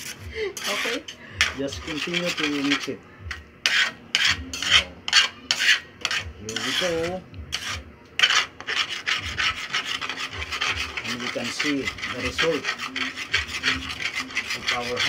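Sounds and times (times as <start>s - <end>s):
metal spatula scraping a pan: 0.0s - 15.0s.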